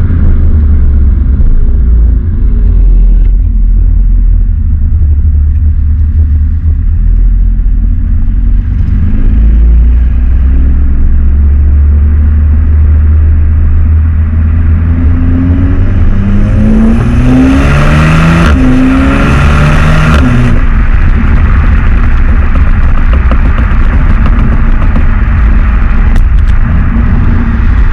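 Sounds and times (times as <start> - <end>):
car engine accelerating hard: 0.0 - 27.9.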